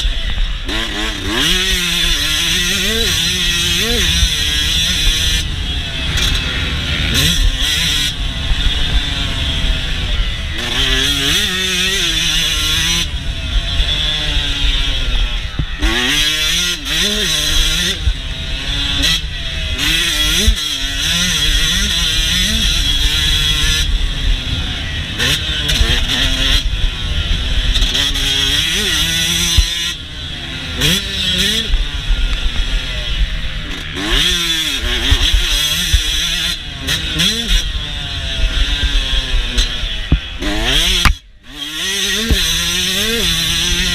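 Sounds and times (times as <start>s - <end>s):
two-stroke engine revving: 0.0s - 43.9s.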